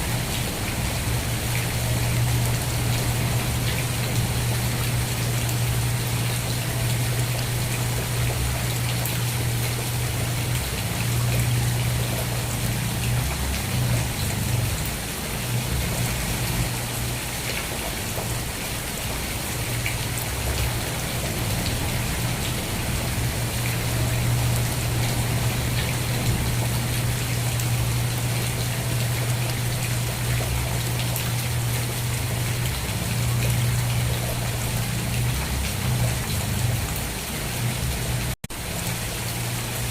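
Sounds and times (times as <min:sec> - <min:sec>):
constant low hum: 0:00.0 - 0:39.8
steady rain falling: 0:00.0 - 0:39.9.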